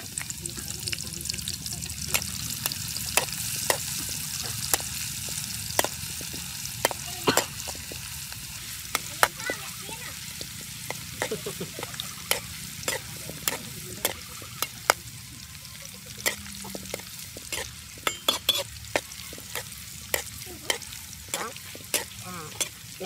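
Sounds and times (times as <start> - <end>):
oil sizzling in wok: 0.0 - 23.0
metal spatula scraping wok: 2.1 - 23.0.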